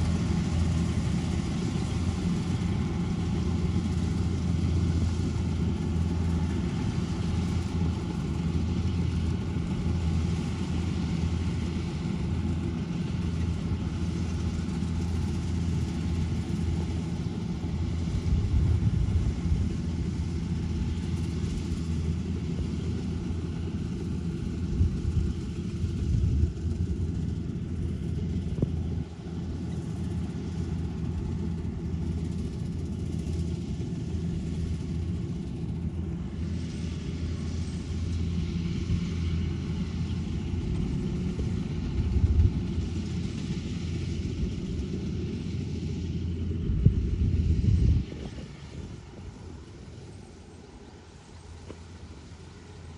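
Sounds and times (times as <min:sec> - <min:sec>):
diesel engine droning: 0:00.0 - 0:52.9.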